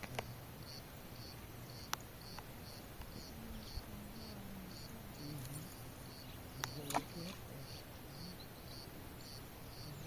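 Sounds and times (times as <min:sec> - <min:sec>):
insect chirping: 0:00.0 - 0:10.0.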